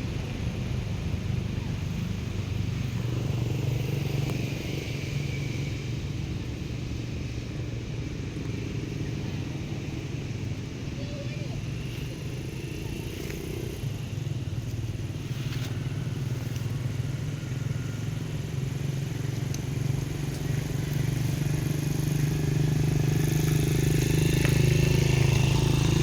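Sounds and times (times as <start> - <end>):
vehicle engine low drone: 0.0 - 26.0.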